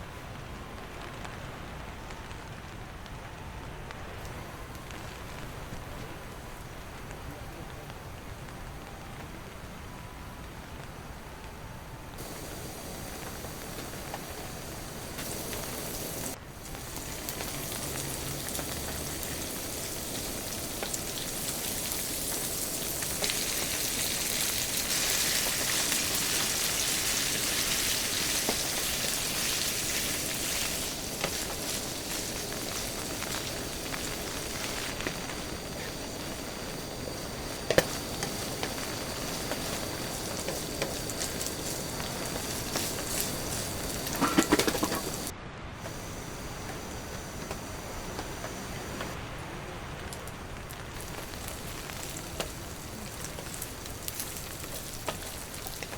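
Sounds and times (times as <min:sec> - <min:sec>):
heavy rain falling: 0:00.0 - 0:55.9
patter of raindrops: 0:00.0 - 0:55.9.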